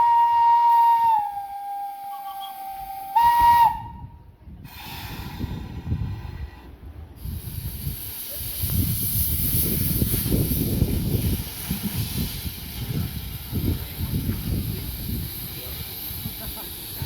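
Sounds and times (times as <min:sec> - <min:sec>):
locomotive steam hissing: 0:00.0 - 0:17.0.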